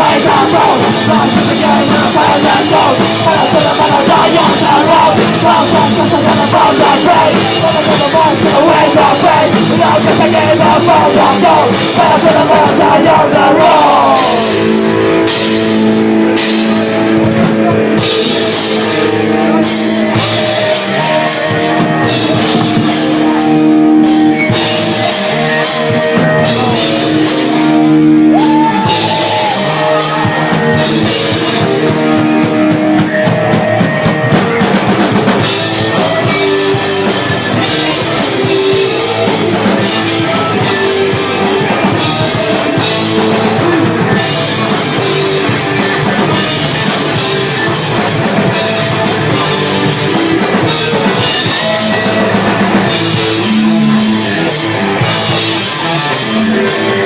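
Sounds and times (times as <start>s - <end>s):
bass guitar: 0.0s - 57.0s
distorted electric guitars: 0.0s - 57.0s
drum kit with cymbal hits: 0.0s - 57.0s.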